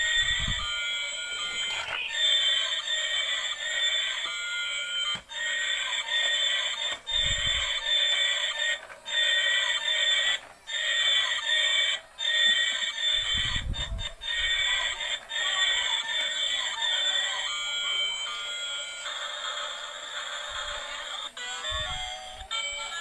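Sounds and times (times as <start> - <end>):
toy speaker playing tinny electronic tune: 0.0 - 23.0.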